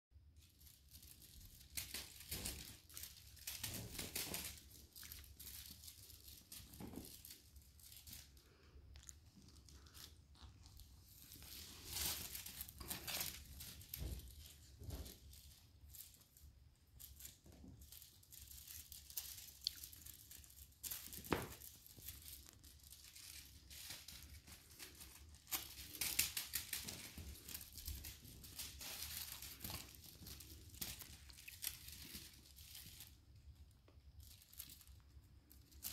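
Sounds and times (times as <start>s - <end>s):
kittens' paws scuffling on floor: 0.4s - 35.9s.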